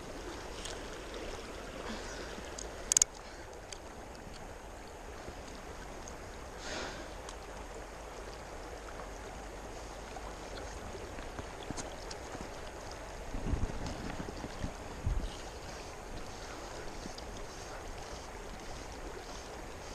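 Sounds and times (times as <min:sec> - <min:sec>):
flowing stream water: 0:00.0 - 0:19.9
faint ticks: 0:01.8 - 0:13.1, 0:13.7 - 0:19.9.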